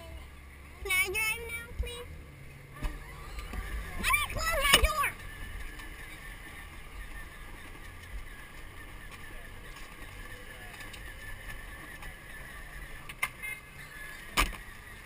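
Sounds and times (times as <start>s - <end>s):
toy car rumbling over bricks: 2.8s - 15.0s.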